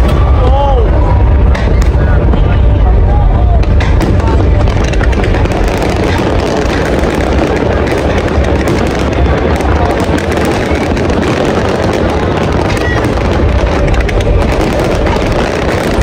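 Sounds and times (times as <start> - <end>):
crowd noise: 0.0 - 16.0
deep rumble: 0.0 - 16.0
fireworks bangs and crackle: 0.0 - 16.0.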